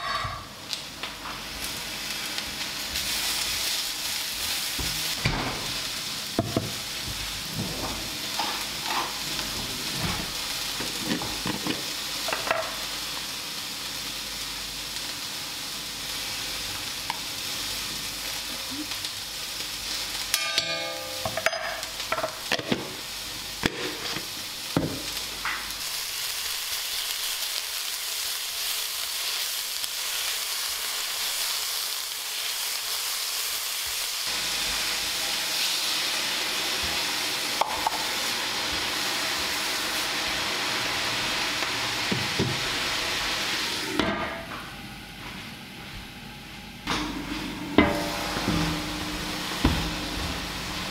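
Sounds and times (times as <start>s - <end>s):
food sizzling in a pan: 0.0s - 50.9s.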